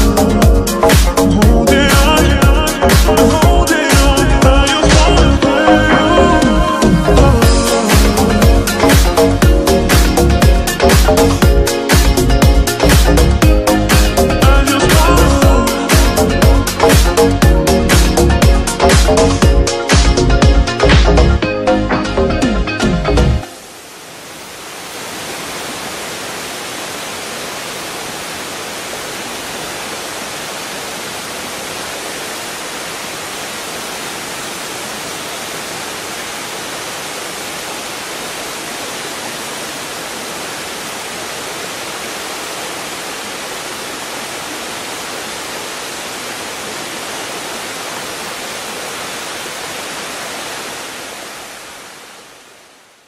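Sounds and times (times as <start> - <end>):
waterfall rushing: 0.0 - 18.1, 23.4 - 53.0.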